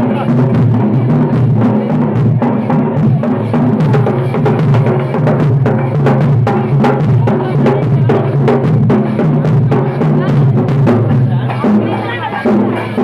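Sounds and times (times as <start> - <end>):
drum and percussion music: 0.0 - 13.0.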